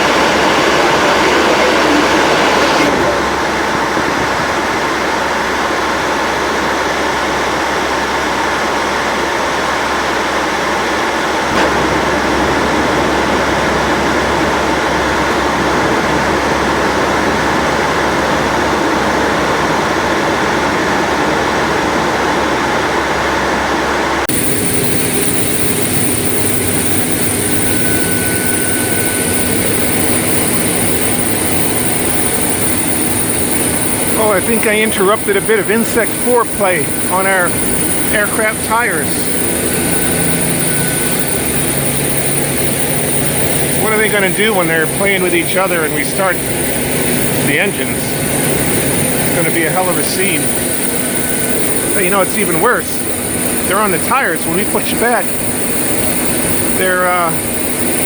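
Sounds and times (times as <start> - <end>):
high constant tones: 0.0 - 58.0
parked jet aircraft rushing noise: 0.0 - 58.0.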